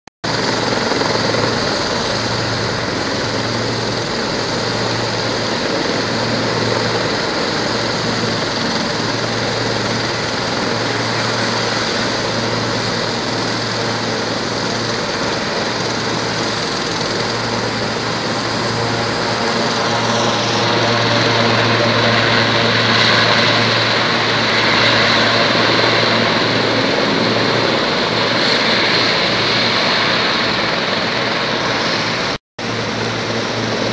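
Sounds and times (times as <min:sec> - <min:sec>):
helicopter turbine and rotor noise: 0:00.2 - 0:33.9.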